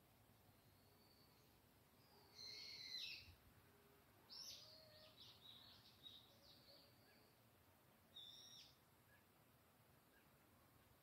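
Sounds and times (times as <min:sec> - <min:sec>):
faint songbird calls: 0:00.4 - 0:03.4, 0:04.3 - 0:09.4, 0:10.0 - 0:11.0.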